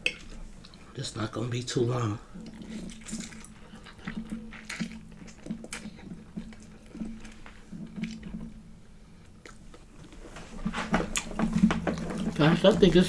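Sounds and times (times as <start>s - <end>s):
person chewing food: 0.0s - 0.9s, 2.3s - 13.0s.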